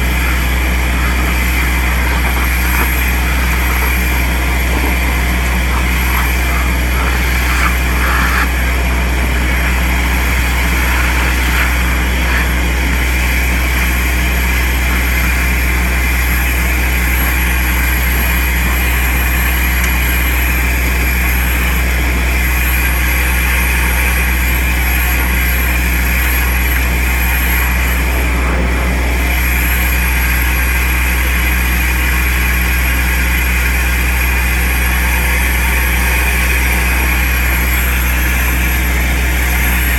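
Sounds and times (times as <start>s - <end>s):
vacuum excavator drone: 0.0s - 39.9s.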